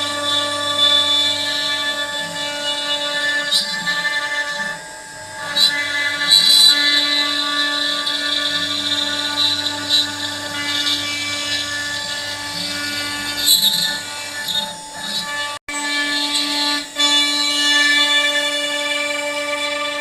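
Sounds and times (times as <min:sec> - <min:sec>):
bit milling wood: 0:00.0 - 0:20.0
router spindle whine: 0:00.0 - 0:20.0.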